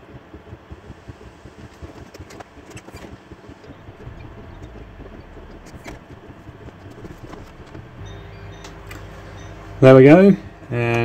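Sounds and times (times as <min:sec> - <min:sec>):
stepper motors running: 0:00.0 - 0:11.0.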